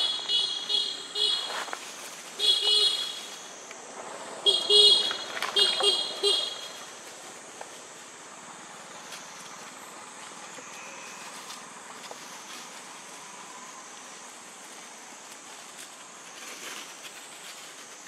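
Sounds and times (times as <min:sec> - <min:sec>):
even hiss: 0:00.0 - 0:18.0.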